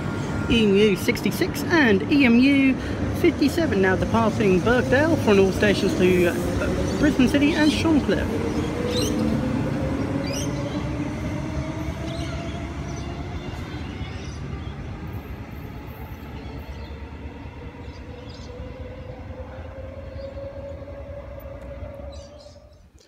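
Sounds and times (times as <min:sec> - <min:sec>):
electric train rumble and wheel noise: 0:00.0 - 0:23.0.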